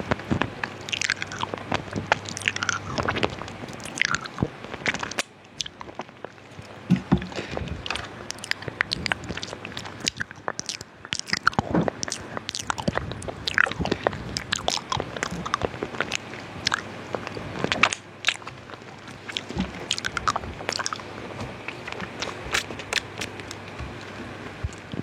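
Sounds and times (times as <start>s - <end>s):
wet mouth clicks: 0.0s - 23.8s
hard lollipop crunching: 0.0s - 25.0s.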